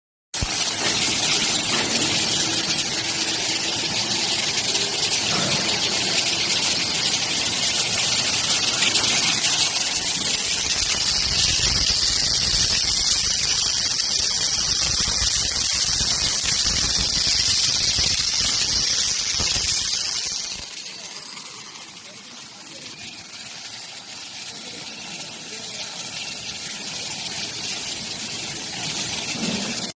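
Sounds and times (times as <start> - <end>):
welding arc hissing and crackling: 0.4 - 30.0.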